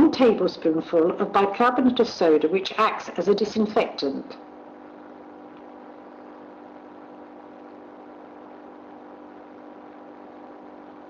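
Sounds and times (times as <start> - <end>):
room tone hum with faint hiss: 0.0 - 11.0.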